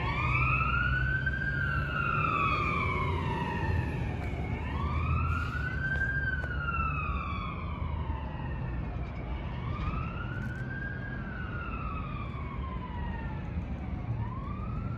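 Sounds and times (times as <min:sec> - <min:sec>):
fire engine siren wailing: 0:00.0 - 0:14.9.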